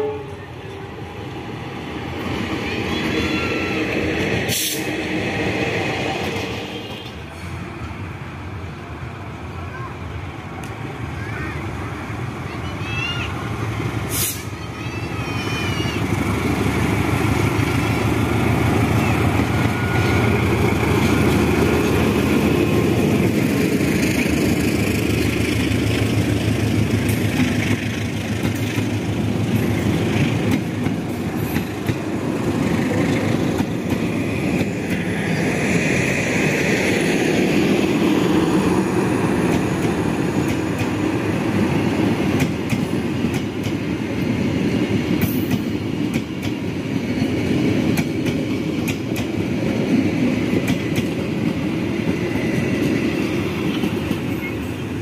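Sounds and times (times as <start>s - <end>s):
diesel locomotive passing: 0.0s - 55.0s
train coaches rumbling on rails: 0.0s - 55.0s.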